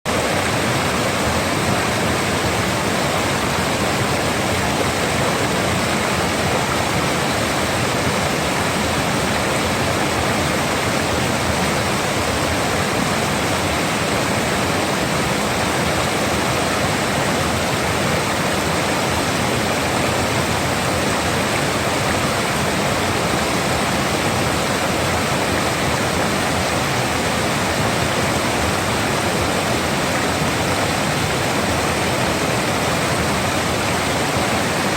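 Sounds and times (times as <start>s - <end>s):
fast-flowing water rushing: 0.1s - 34.9s.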